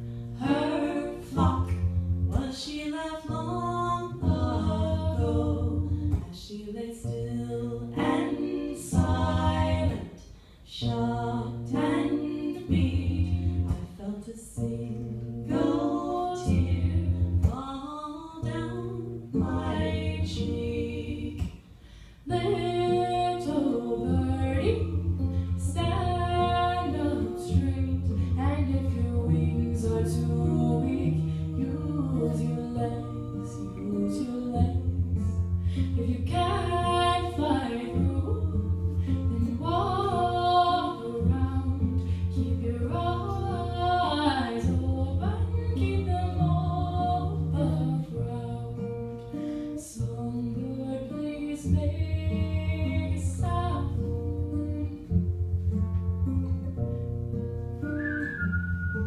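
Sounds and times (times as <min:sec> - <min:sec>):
woman singing a slow song: 0:00.0 - 0:55.3
acoustic guitar: 0:00.0 - 0:59.0.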